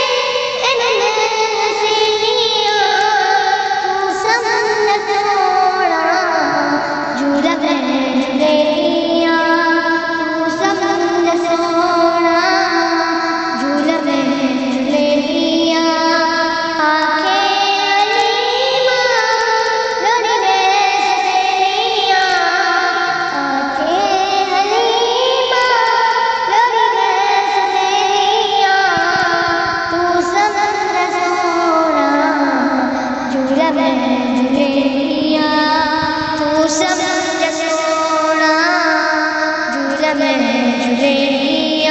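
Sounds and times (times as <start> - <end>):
high voice singing: 0.0 - 41.9.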